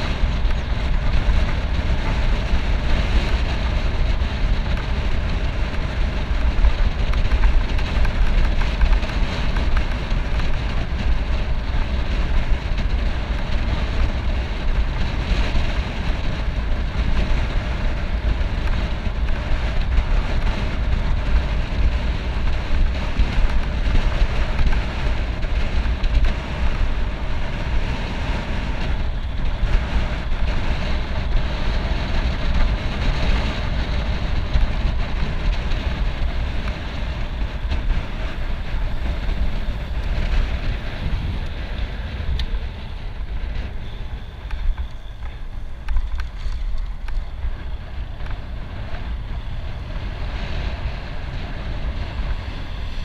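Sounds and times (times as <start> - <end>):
bike tyres rolling on asphalt: 0.0 - 53.0
wind buffeting microphone: 0.0 - 53.0.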